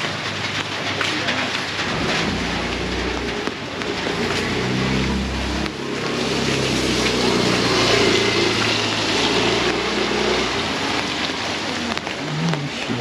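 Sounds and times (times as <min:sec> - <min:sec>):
heavy rain pouring: 0:00.0 - 0:13.0
vehicle engine running: 0:00.0 - 0:13.0.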